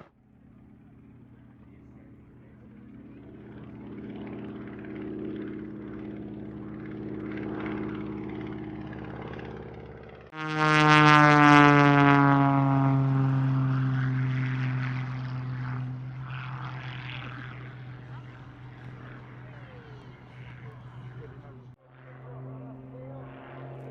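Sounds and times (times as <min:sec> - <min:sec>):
aircraft engine running: 0:00.0 - 0:23.9
propeller aircraft flying past: 0:00.0 - 0:23.9.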